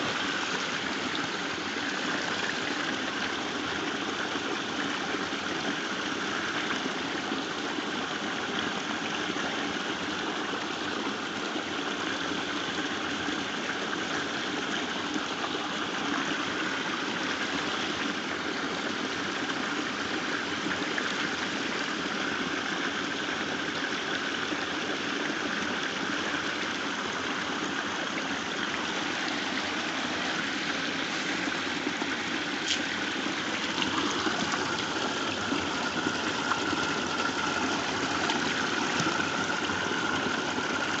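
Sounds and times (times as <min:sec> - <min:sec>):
waterfall running over rocks: 0:00.0 - 0:41.0.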